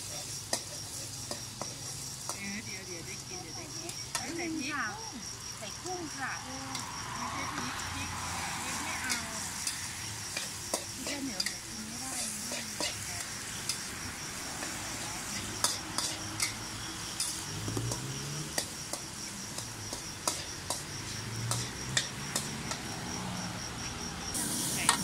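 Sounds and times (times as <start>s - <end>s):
rice sizzling in a wok: 0.0s - 25.0s.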